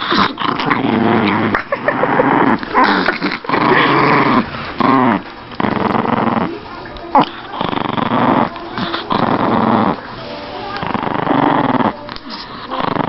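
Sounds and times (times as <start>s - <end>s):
dog growling: 0.0s - 13.0s.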